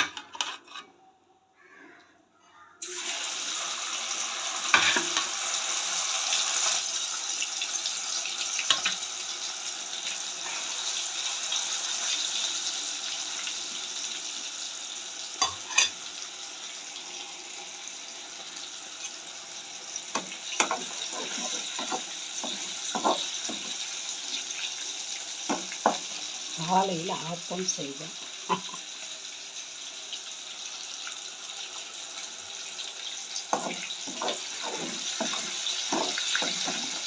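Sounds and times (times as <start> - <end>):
chicken sizzling in hot oil: 2.8 - 37.0.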